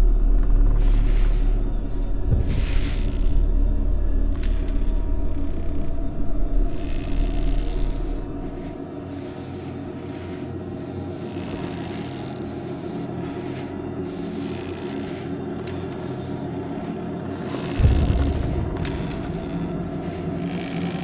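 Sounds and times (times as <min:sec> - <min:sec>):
deep rumble: 0:00.0 - 0:11.7, 0:15.4 - 0:21.0
low ominous drone: 0:00.0 - 0:21.0.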